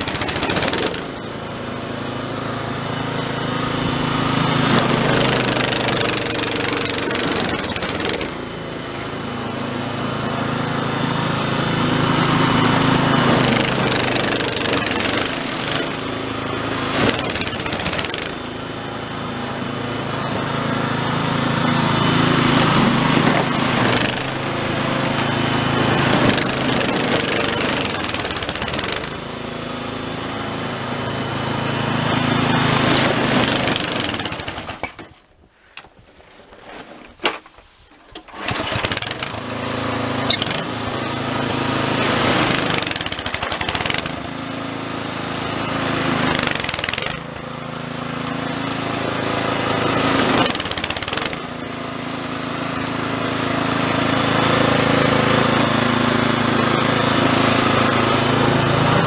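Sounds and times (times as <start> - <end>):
snowblower engine running: 0.0 - 35.2, 38.1 - 59.0.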